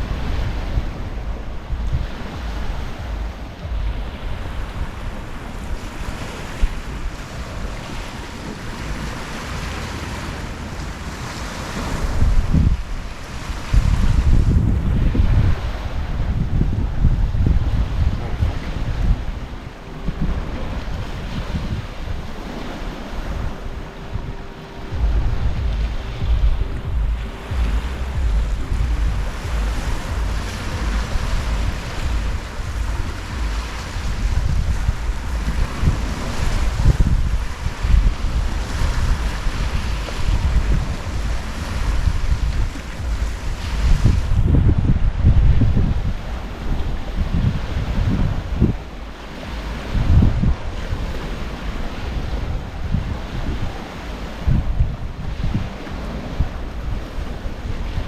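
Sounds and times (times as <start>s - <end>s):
ocean waves washing ashore: 0.0s - 58.0s
wind buffeting microphone: 0.0s - 58.0s.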